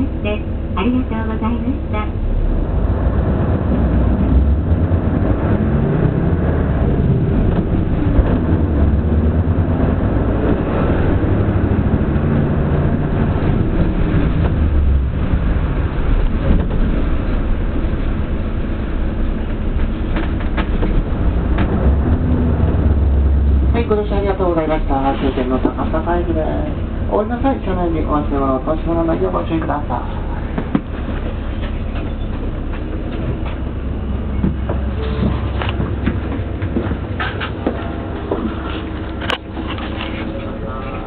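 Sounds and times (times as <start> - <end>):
bus engine drone: 0.0 - 41.0
road noise: 0.0 - 41.0.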